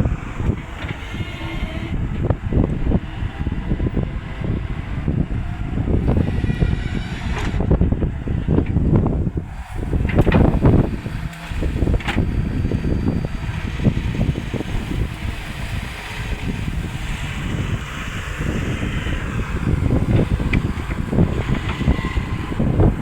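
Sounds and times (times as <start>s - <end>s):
excavator engine running: 0.0s - 23.0s
wind buffeting microphone: 0.0s - 23.0s.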